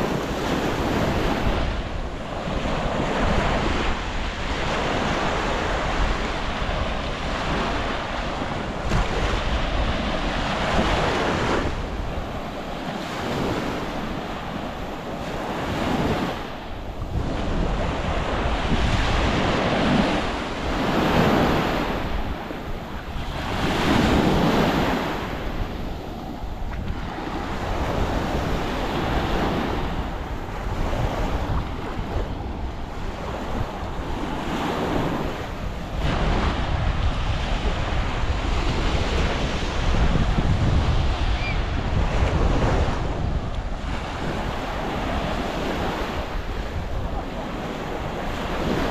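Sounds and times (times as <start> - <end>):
waves breaking on shore: 0.0 - 48.9
wind rumbling on microphone: 0.0 - 48.9.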